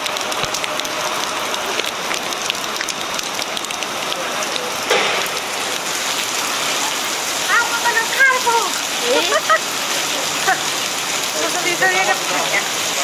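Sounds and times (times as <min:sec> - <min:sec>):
heavy rain pouring: 0:00.0 - 0:13.0
raindrops ticking nearby: 0:00.0 - 0:13.0.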